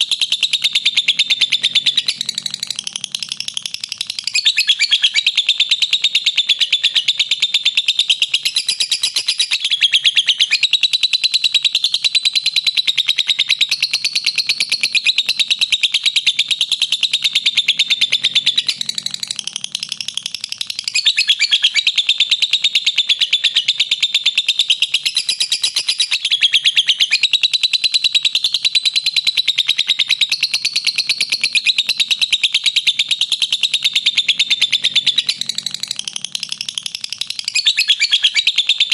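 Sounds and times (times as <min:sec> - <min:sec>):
bird chattering trill: 0:00.0 - 0:38.9.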